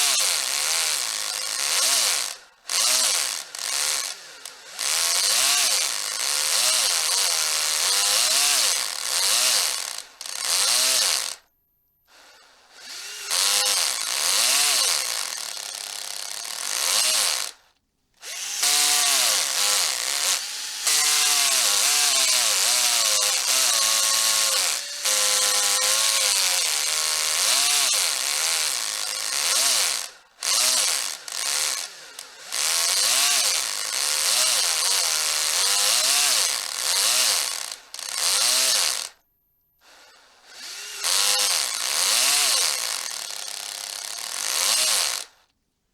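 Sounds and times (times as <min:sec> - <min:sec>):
electric hammer drill whining: 0:00.0 - 0:11.5, 0:12.1 - 0:39.2, 0:39.8 - 0:45.5.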